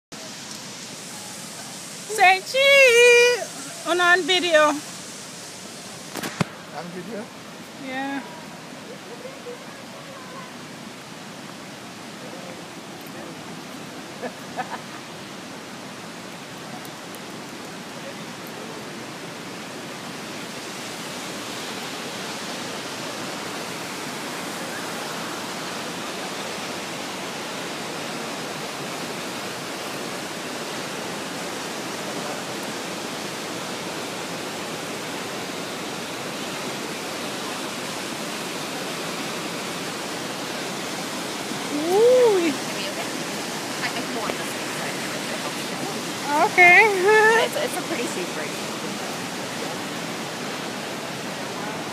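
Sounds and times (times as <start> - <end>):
water rushing: 0.1 - 51.9.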